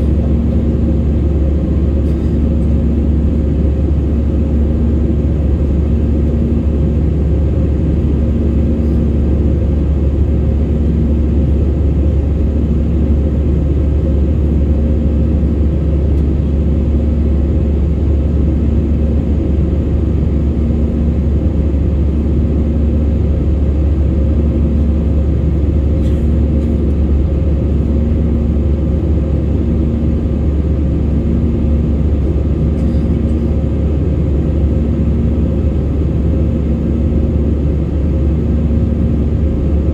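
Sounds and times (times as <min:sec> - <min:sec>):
jet cabin engine and airflow noise: 0:00.0 - 0:39.9
pulsing low hum: 0:00.0 - 0:39.9.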